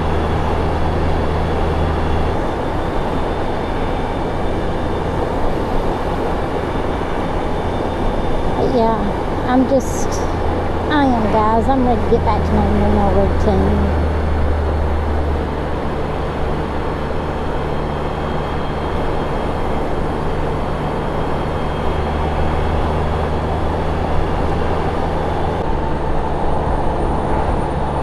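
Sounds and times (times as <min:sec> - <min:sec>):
road and wind noise: 0:00.0 - 0:28.0
vehicle engine hum: 0:00.0 - 0:28.0.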